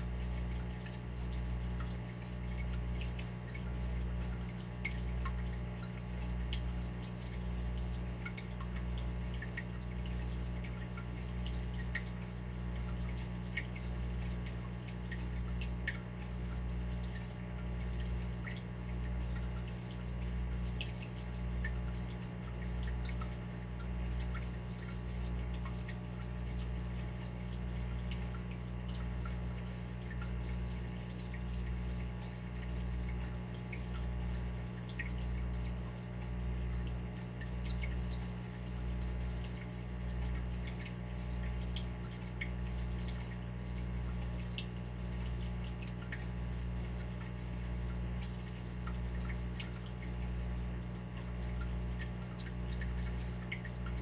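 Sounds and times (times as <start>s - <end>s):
water dripping: 0.0s - 54.0s.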